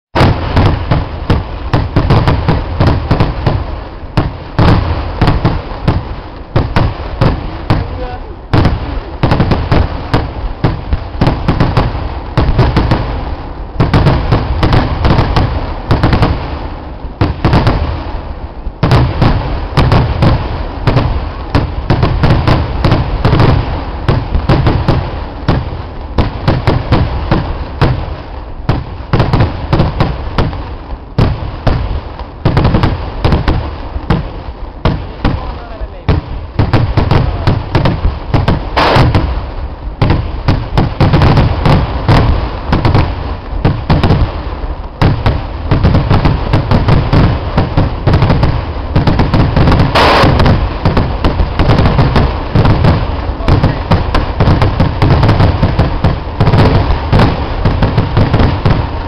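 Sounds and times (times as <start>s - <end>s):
deep firework booms: 0.1s - 59.0s
rapid firework bangs: 0.1s - 59.0s.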